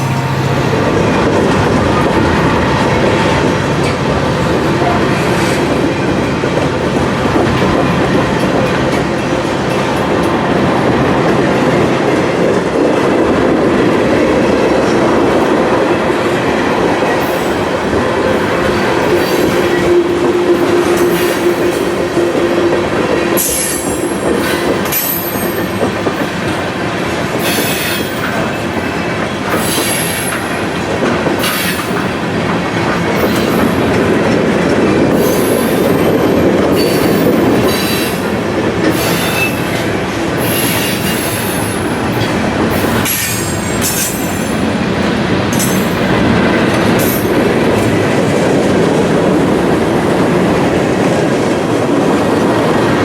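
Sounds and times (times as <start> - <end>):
train cars on rails: 0.0 - 53.0.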